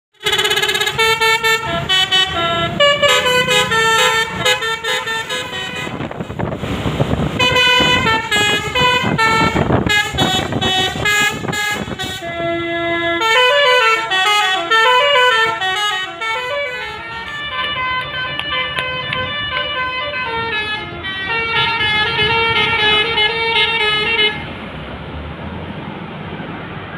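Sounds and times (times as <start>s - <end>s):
multi-tone bus horn melody: 0.2s - 6.6s, 7.2s - 24.6s.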